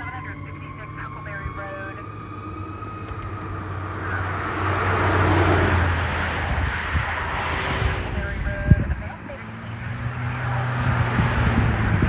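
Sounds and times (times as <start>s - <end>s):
fire engine driving past: 0.0s - 12.0s.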